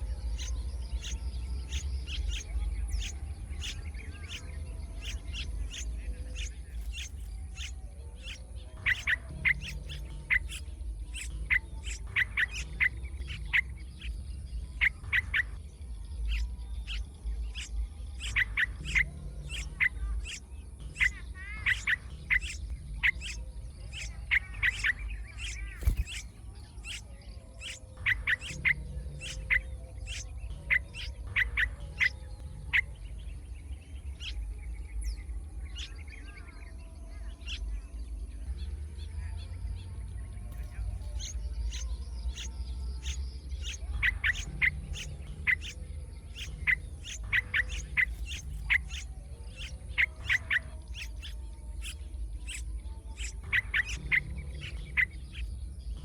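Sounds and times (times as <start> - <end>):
small bird chirping: 0.0 - 56.0.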